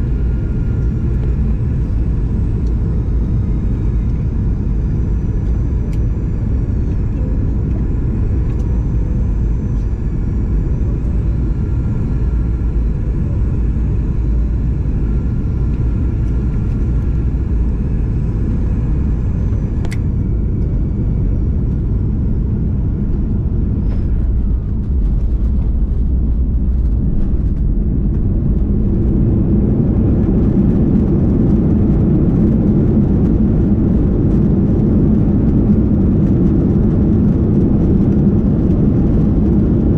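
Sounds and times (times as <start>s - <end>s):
airplane cabin rumble: 0.0s - 39.9s
faint high engine whine: 0.0s - 39.9s.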